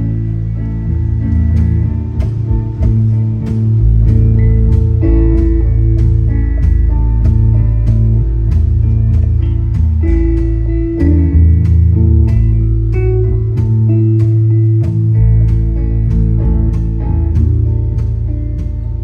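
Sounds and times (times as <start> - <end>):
deep bass notes: 0.0 - 19.0
guitar: 0.0 - 19.0.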